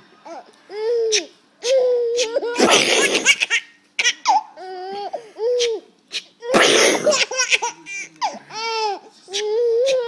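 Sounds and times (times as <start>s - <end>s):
baby laughing: 0.3s - 10.0s.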